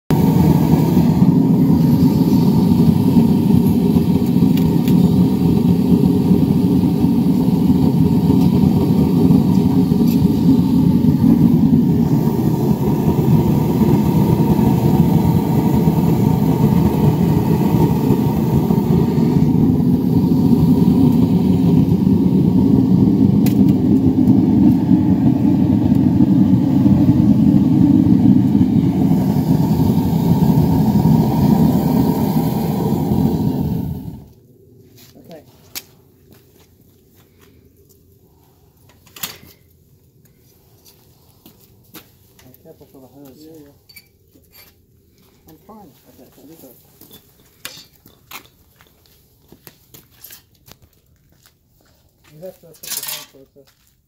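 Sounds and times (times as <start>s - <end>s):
furnace burner roaring: 0.1s - 53.4s.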